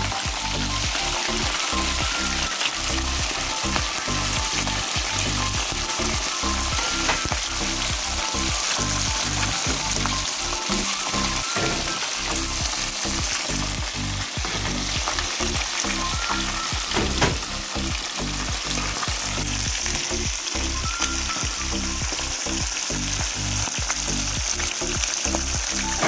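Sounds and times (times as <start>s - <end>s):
chicken wings sizzling in oil: 0.0s - 26.0s.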